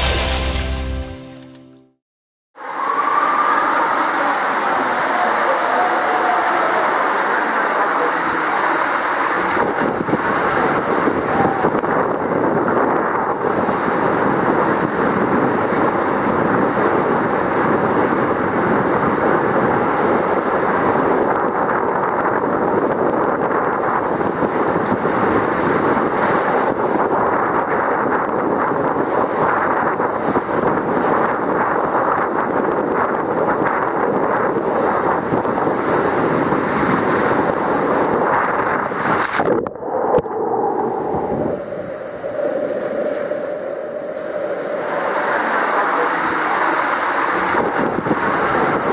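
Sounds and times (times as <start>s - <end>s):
water rushing in slide tube: 2.6s - 48.9s.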